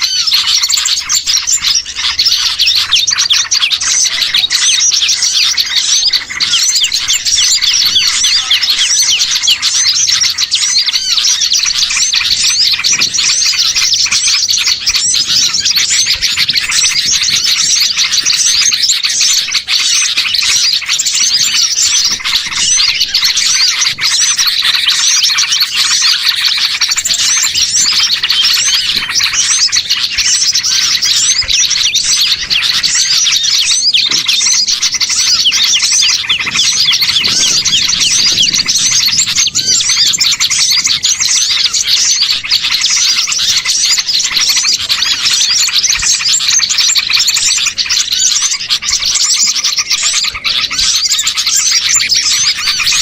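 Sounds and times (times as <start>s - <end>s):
songbirds chirping and twittering: 0.0s - 53.0s.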